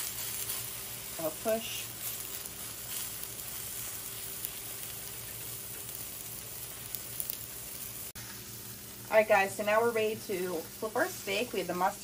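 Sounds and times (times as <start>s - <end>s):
steak sizzling in oil: 0.0s - 12.0s.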